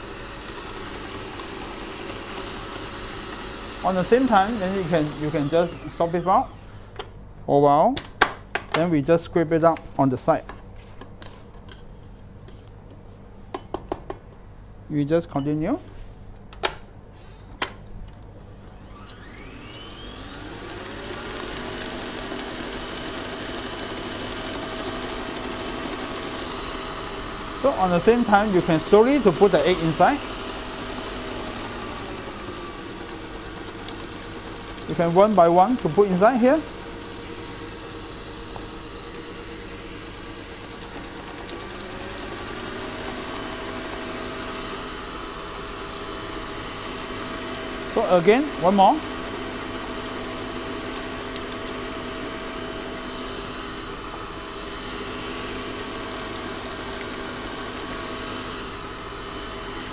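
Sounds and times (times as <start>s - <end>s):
stand mixer motor whining: 0.0s - 6.8s, 18.6s - 59.9s.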